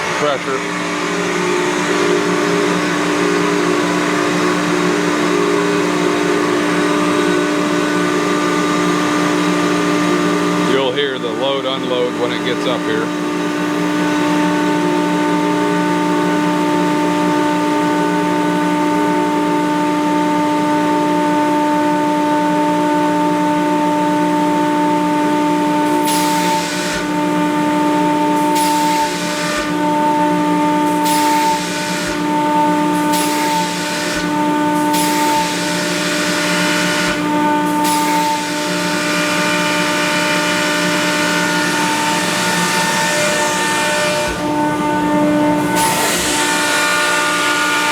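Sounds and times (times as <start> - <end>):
air compressor humming: 0.0 - 47.9.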